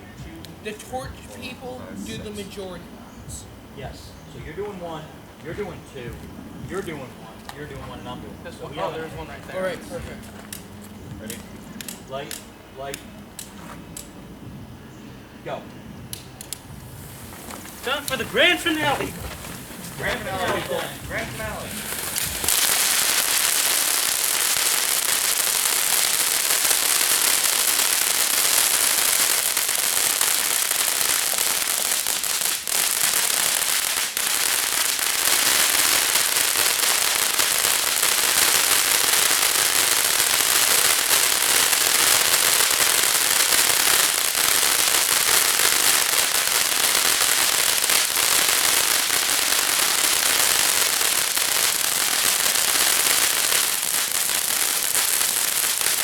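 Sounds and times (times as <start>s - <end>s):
fireworks crackling and hissing: 0.0s - 56.0s.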